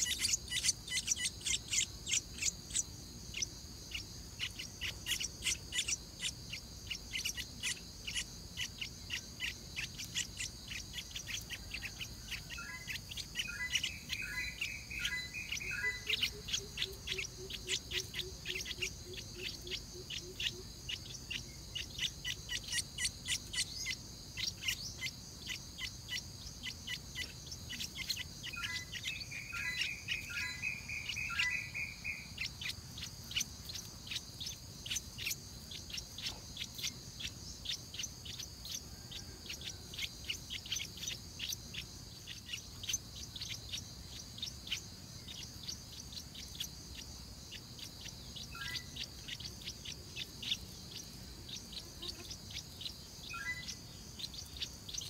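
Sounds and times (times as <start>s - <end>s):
chicks chirping rapidly: 0.0s - 55.0s
high-pitched insect drone: 0.0s - 55.0s
warbled bird song: 0.0s - 55.0s.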